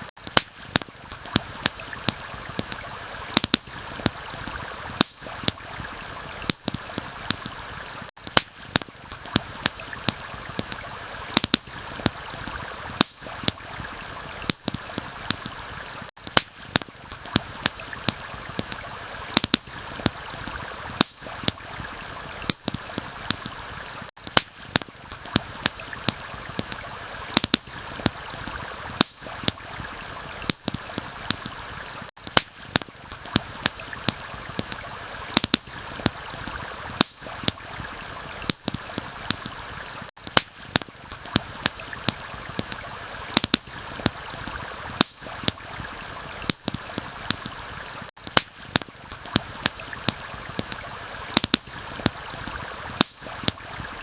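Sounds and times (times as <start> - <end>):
stream rushing: 0.0 - 32.1, 33.0 - 48.1, 48.7 - 54.0
campfire crackling and popping: 0.0 - 54.0
rain: 0.0 - 54.0.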